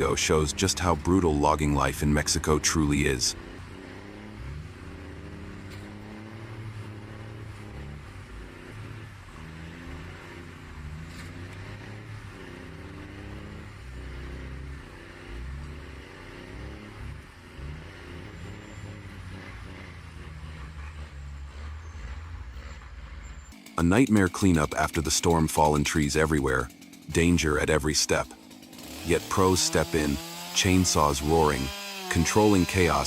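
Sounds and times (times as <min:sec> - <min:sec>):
truck engine labouring: 0:00.0 - 0:33.0.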